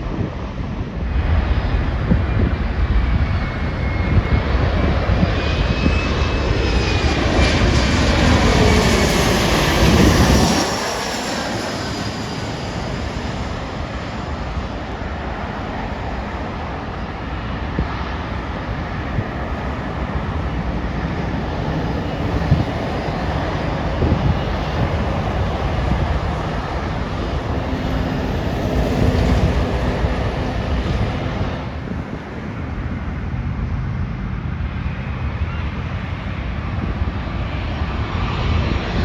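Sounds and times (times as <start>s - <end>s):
jet engines roaring: 0.0s - 39.0s
steady low rumble: 0.0s - 39.0s.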